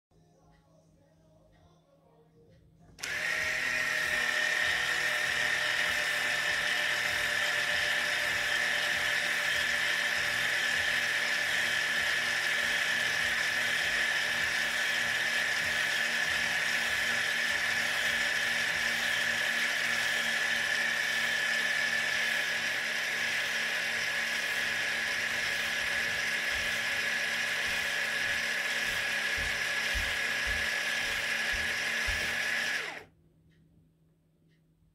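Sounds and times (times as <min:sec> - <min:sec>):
brake servomotor whine: 0:03.0 - 0:33.0.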